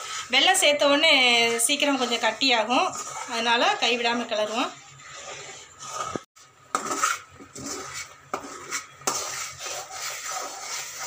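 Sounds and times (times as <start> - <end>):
metal spatula scraping a pan: 0.0 - 11.0.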